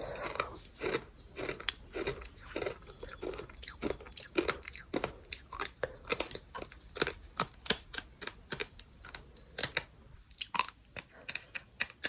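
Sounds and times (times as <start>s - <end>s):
chewing gritty sand crunches: 0.0s - 12.0s.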